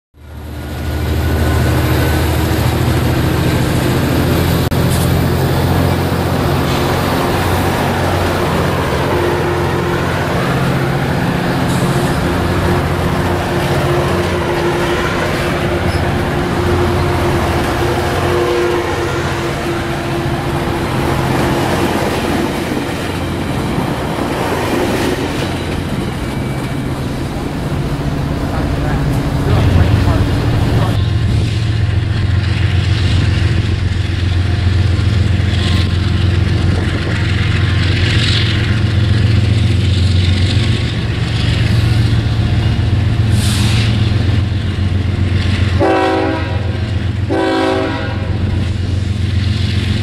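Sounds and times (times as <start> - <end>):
train wheels rolling on rails: 0.2 - 50.0.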